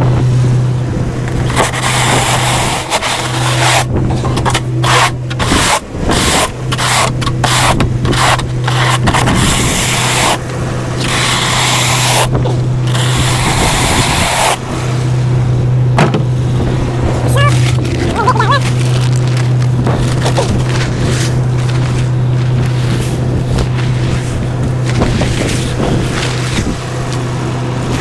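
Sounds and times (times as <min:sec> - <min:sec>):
plow blade scraping snow and pavement: 0:00.0 - 0:28.0
truck engine hum: 0:00.0 - 0:28.0.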